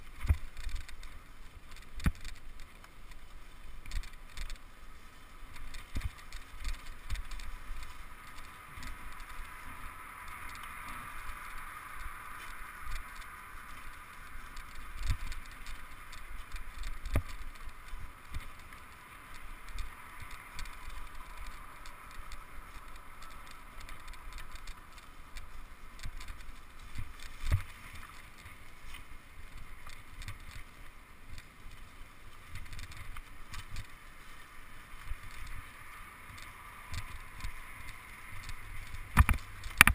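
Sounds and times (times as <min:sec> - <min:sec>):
bicycle tyres rolling on dirt: 0:00.0 - 0:39.9
bike rattling: 0:00.0 - 0:39.9.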